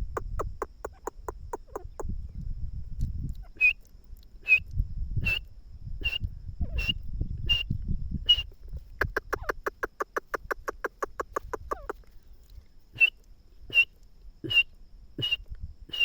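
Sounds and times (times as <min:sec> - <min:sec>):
francolin calling: 0:00.0 - 0:02.4, 0:03.3 - 0:16.0.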